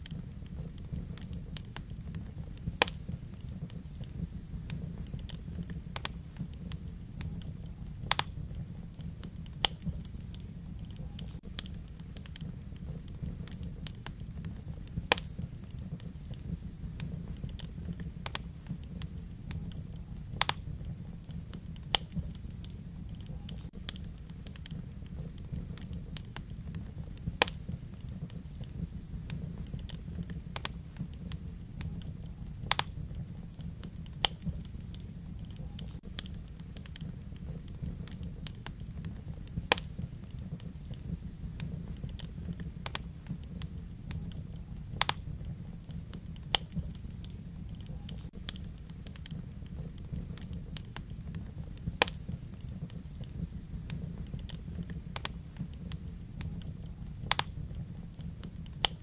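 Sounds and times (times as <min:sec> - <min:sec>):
fire flames rumbling: 0:00.0 - 0:59.0
sharp fire pops: 0:00.0 - 0:59.0
small fire crackles: 0:00.0 - 0:59.0.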